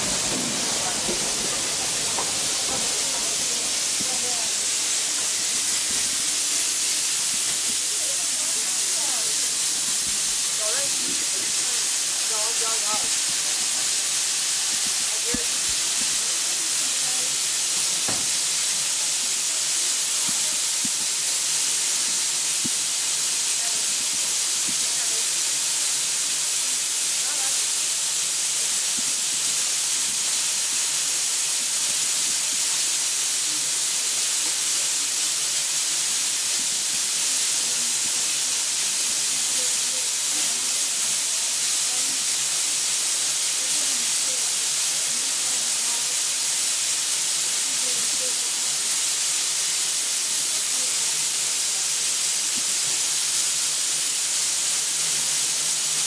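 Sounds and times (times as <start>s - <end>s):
steam hissing: 0.0s - 56.0s.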